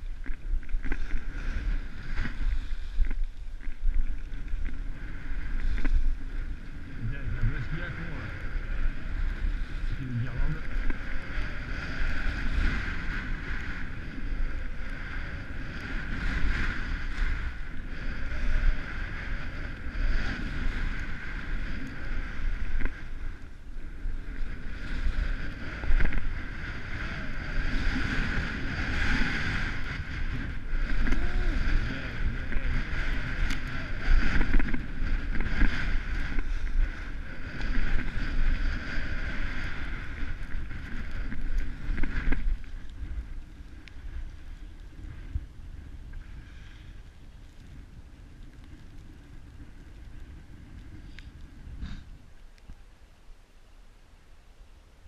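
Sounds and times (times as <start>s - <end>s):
skis scraping on packed snow: 0.0s - 52.0s
wind buffeting microphone: 0.0s - 52.9s.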